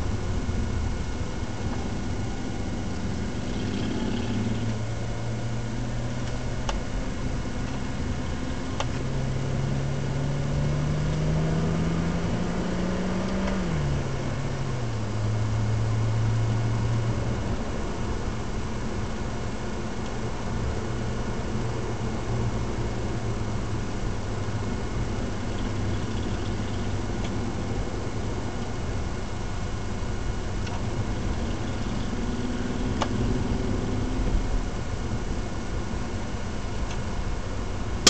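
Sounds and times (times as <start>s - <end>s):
car engine heard from cabin: 0.0s - 38.0s
road noise: 0.0s - 38.0s.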